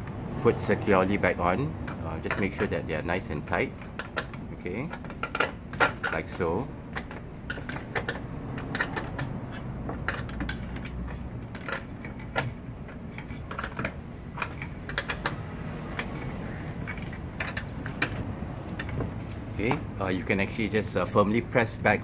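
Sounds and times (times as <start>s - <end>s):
rustling of wiring and trim: 0.8s - 22.0s.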